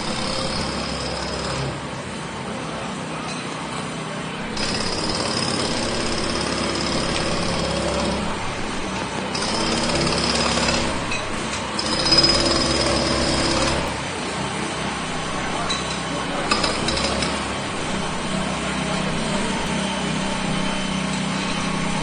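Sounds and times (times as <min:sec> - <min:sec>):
jackhammer breaking ground: 0:00.0 - 0:01.8, 0:04.4 - 0:14.2, 0:15.0 - 0:22.0.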